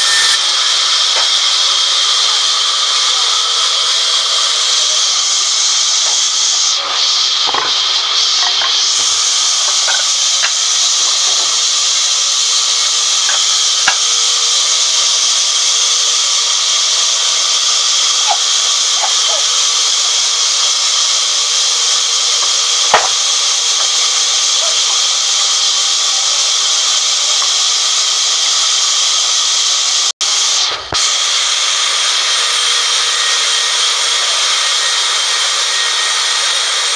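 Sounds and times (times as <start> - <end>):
band saw cutting log: 0.0 - 36.9.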